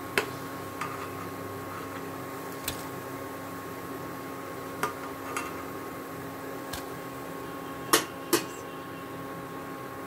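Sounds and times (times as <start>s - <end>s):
food deep-frying in oil: 0.0s - 10.0s
steady hum: 0.0s - 10.0s.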